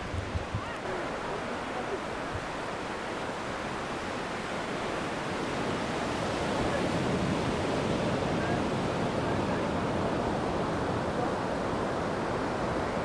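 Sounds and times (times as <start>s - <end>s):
surf washing onto sandy beach: 0.0s - 13.0s.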